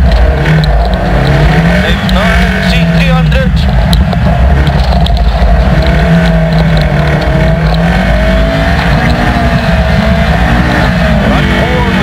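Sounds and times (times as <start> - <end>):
car engine at high revs: 0.0 - 12.0
tyres on gravel: 0.0 - 12.0.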